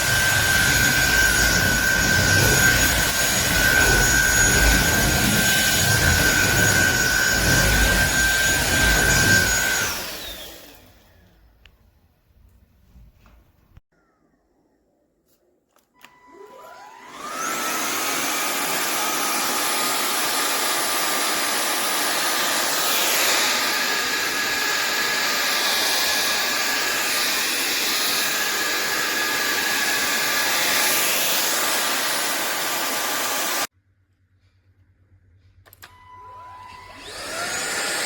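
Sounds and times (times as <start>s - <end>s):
vacuum cleaner motor whirring: 0.0s - 11.5s, 16.0s - 33.7s, 35.7s - 38.0s.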